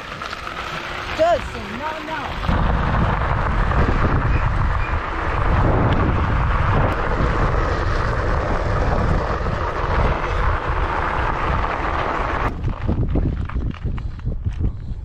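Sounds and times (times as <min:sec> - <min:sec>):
e-bike rolling noise: 0:00.0 - 0:15.0
low rumble: 0:00.0 - 0:15.0
wind buffeting microphone: 0:00.9 - 0:15.0.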